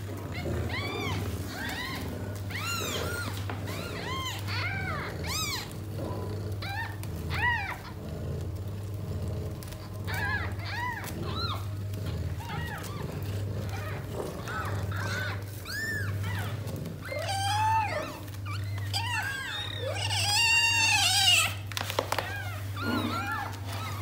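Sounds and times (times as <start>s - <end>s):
kittens mewing: 0.0s - 24.0s.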